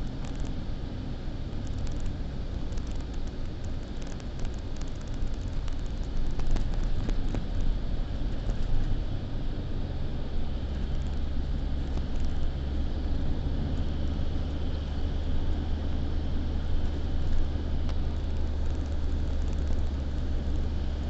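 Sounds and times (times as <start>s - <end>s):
car driving rumble: 0.0s - 21.0s
road and wind noise: 0.0s - 21.0s.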